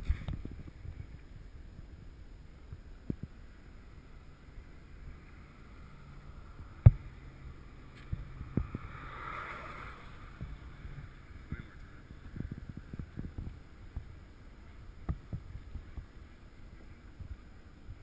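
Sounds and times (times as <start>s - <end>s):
faint rush: 0.0s - 18.0s.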